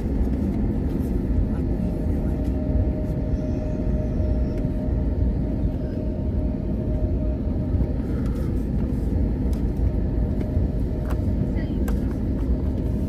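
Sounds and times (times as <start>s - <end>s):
airliner engines rumbling: 0.0s - 13.0s.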